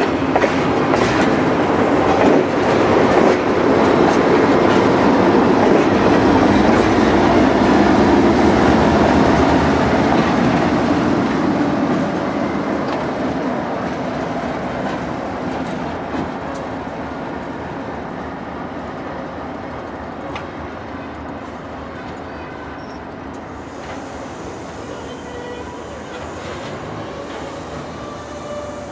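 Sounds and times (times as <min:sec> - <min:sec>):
train rumbling past: 0:00.0 - 0:28.9.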